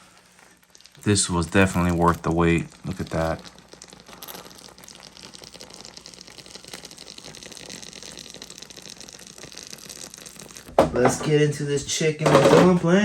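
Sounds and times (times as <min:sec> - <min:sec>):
pot bubbling at a simmer: 0:00.0 - 0:13.0.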